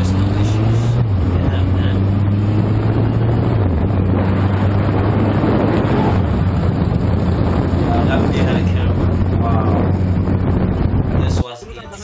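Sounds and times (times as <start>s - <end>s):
motorcycle engine running: 0.0s - 11.3s
wind noise on microphone: 0.0s - 12.0s.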